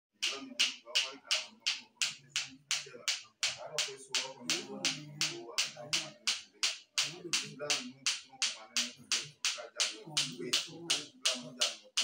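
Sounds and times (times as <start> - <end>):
low voices: 0.2 - 12.0.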